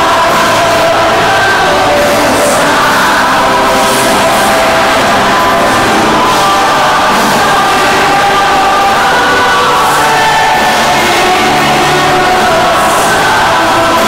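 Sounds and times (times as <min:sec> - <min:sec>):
crowd singing along: 0:00.0 - 0:14.0
live music through loudspeakers: 0:00.0 - 0:14.0.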